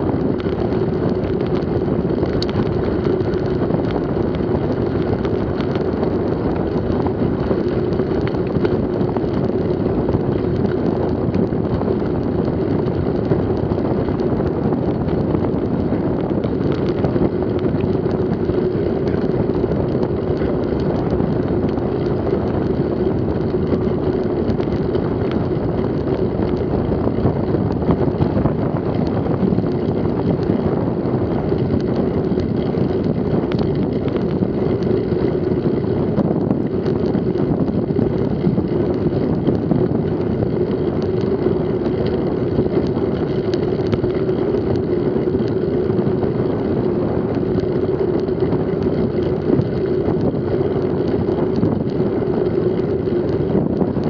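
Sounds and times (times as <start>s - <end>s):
wind rush over microphone: 0.0s - 54.0s.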